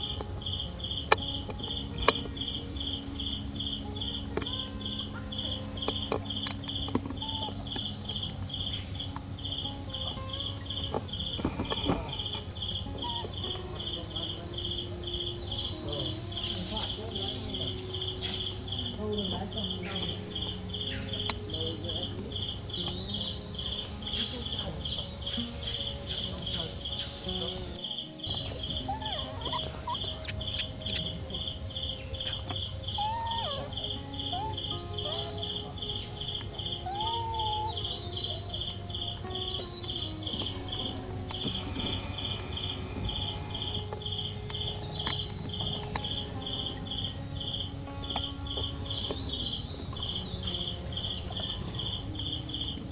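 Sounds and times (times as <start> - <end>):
faint short chirping calls: 0.0 - 52.9
high-pitched insect whine: 0.0 - 52.9
insects pulsing chirp: 0.0 - 52.9.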